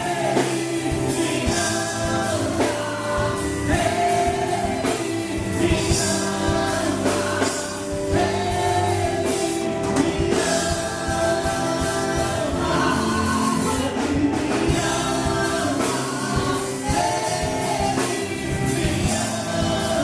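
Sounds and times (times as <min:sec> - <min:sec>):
gospel band playing: 0:00.0 - 0:20.0
singers holding long notes: 0:00.0 - 0:20.0.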